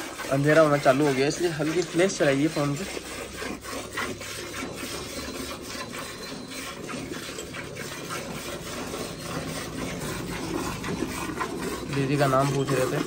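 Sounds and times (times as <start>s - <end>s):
milk squirting into bucket: 0.0s - 13.0s.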